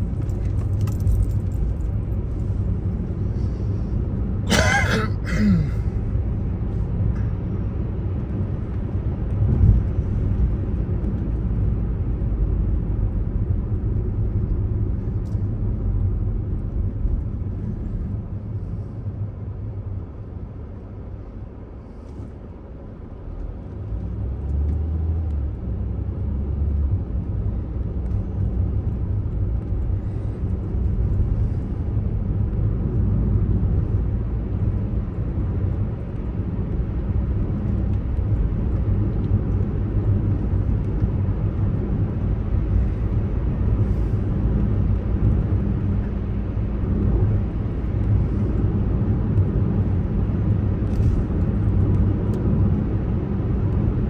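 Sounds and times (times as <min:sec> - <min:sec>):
car cabin road noise: 0:00.0 - 0:54.0.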